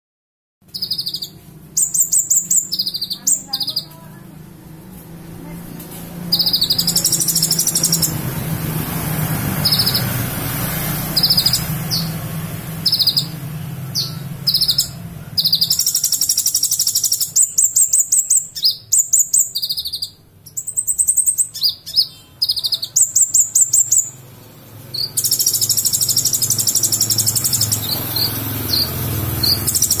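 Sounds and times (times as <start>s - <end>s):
songbird chirping and trilling: 0.6s - 30.0s.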